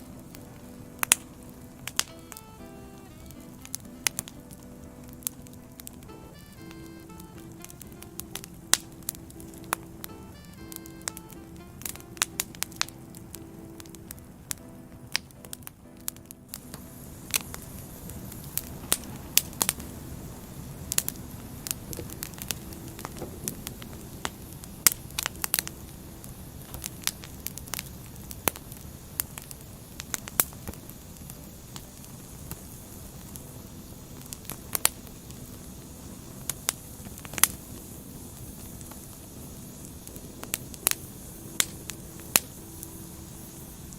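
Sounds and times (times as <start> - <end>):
firewood crackling and popping: 0.0 - 43.9
low rush of flames: 0.0 - 43.9.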